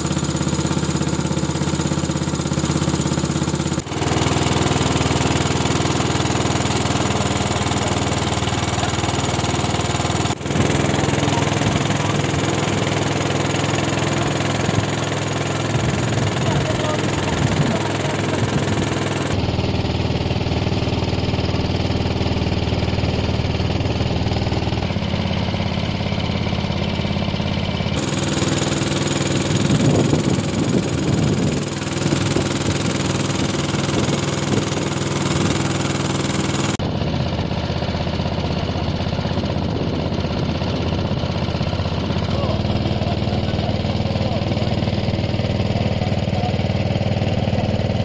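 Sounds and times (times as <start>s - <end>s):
small boat engine running: 0.0s - 48.0s.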